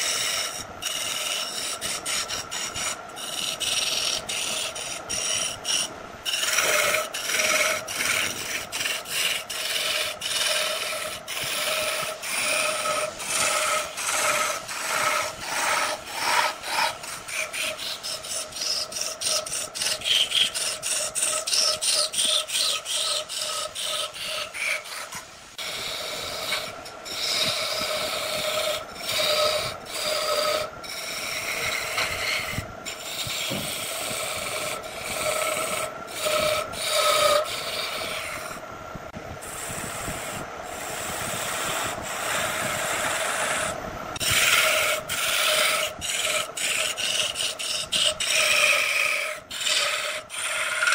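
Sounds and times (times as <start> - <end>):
turning tool scraping wood: 0.0 - 38.6, 39.4 - 50.9
wood lathe humming: 0.0 - 38.6, 39.4 - 50.9.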